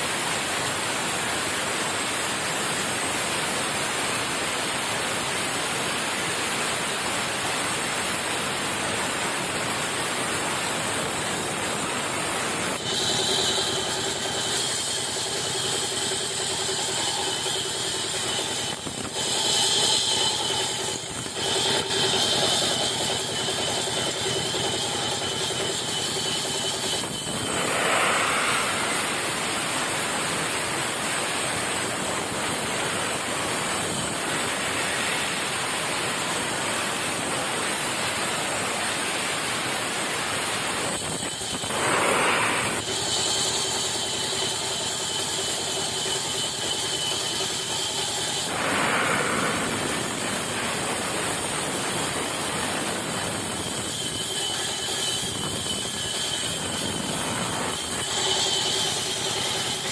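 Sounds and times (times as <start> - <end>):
sawmill machinery whirring: 0.0 - 59.9.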